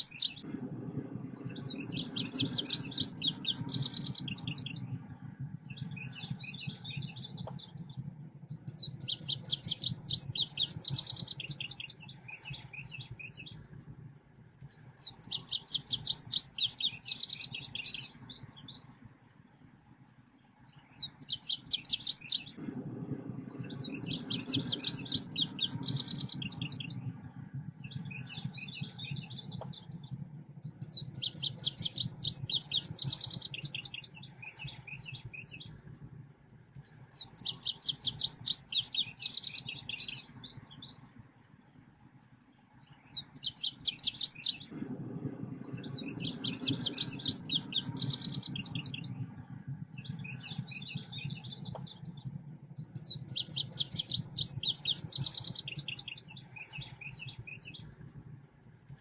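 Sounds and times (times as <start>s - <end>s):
bird chirping trills: 0.0s - 59.0s
faint low hum: 0.0s - 59.0s.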